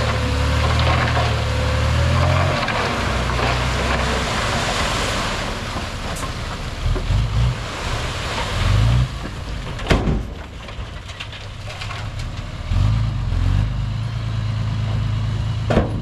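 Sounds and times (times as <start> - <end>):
heavy diesel machinery rumbling: 0.0 - 16.0.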